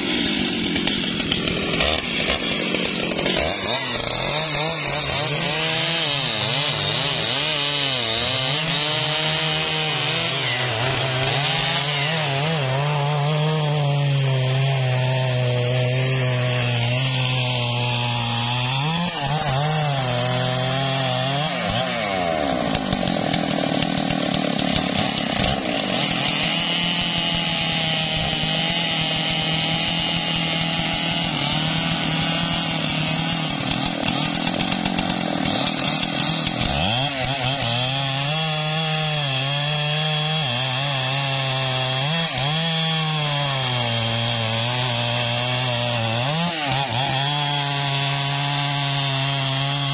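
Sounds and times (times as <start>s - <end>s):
chainsaw cutting through trunk: 0.0s - 49.9s.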